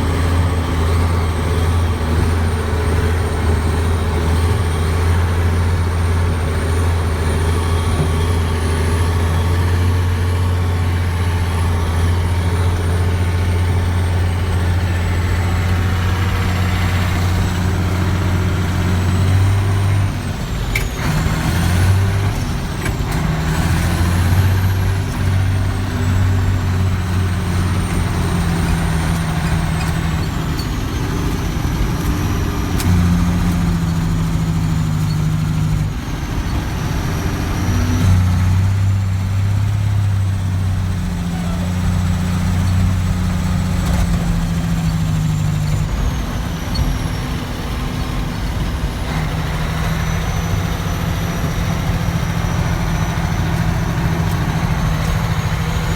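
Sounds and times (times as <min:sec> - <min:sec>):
diesel truck engine droning: 0:00.0 - 0:55.9.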